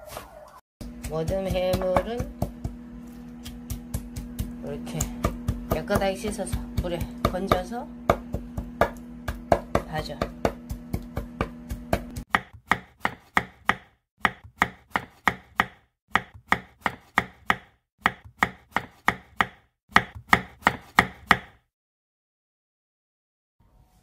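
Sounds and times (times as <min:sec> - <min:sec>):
knife chopping on wooden board: 0:00.8 - 0:02.8, 0:03.4 - 0:21.6.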